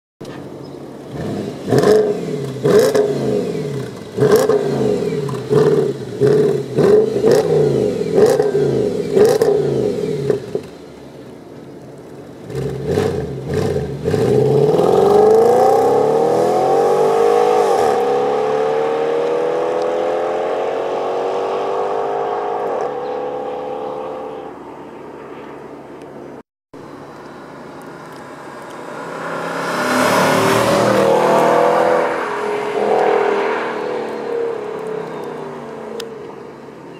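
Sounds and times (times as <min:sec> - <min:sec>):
car engine revving and accelerating: 0:01.0 - 0:10.7, 0:12.4 - 0:24.6, 0:28.3 - 0:36.3.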